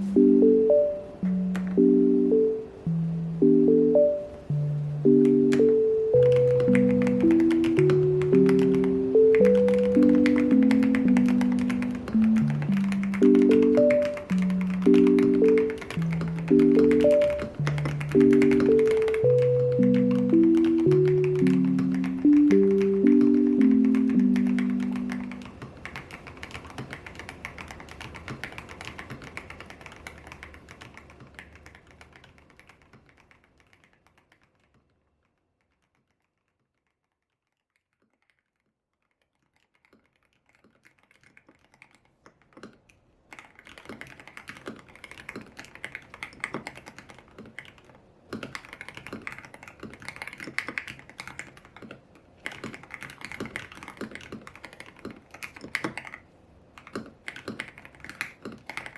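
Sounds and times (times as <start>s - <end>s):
mechanical keyboard typing: 0.0s - 58.9s.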